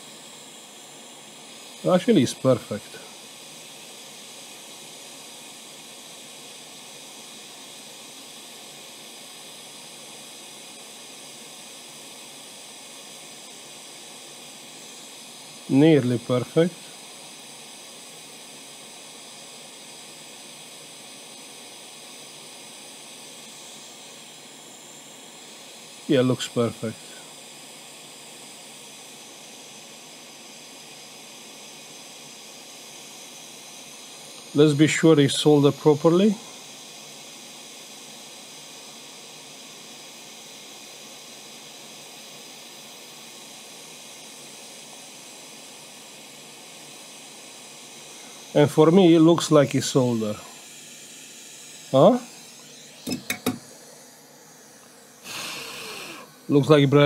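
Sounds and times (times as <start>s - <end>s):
hot air hissing from nozzle: 0.0s - 57.0s.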